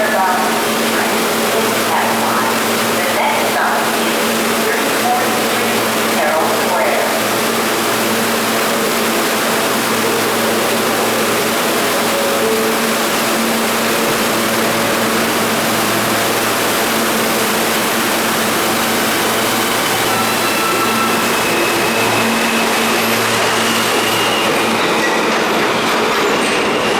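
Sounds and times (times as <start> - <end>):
subway train rumble: 0.0 - 26.9.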